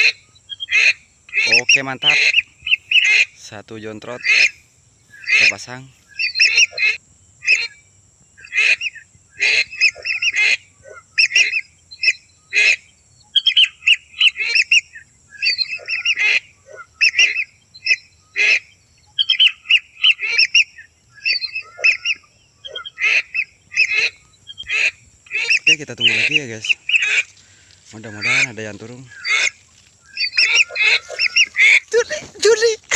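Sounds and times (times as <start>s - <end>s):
ducks whistling calls: 0.0s - 7.8s, 8.4s - 32.9s.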